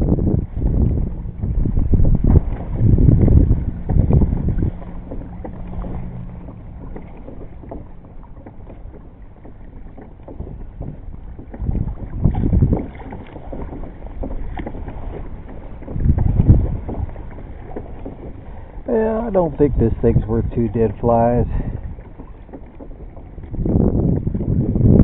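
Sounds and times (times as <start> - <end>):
kayak moving on water: 0.0 - 25.0
wind buffeting microphone: 0.0 - 25.0.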